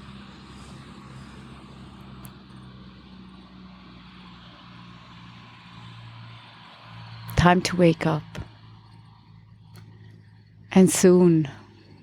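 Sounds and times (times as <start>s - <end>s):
distant road noise: 0.0s - 12.0s
low motor hum: 0.0s - 12.0s.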